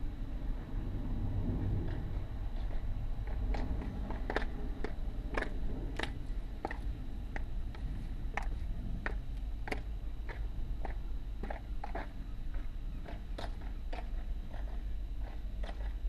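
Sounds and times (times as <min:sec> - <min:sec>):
heels clicking on pavement: 0:01.9 - 0:16.0.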